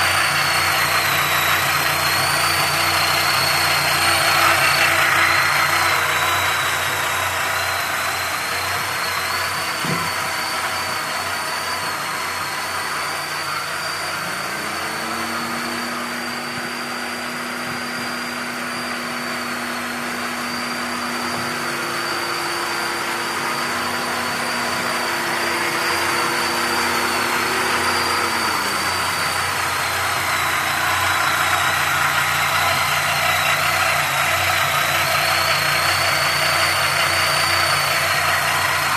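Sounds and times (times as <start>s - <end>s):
car engine idling: 0.0s - 38.9s
high-pitched whistle: 0.0s - 38.9s.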